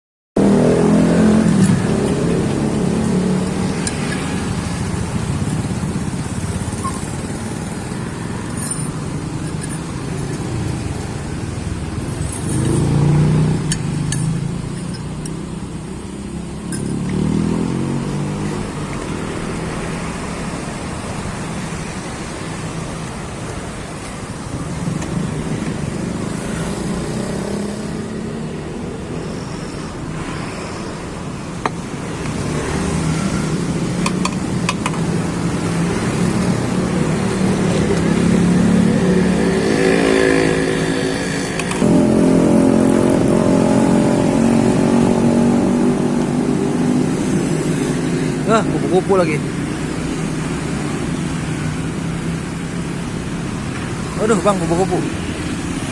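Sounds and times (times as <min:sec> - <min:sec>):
traffic engine noise: 0:00.4 - 0:55.9
vehicles passing close by: 0:00.4 - 0:55.9.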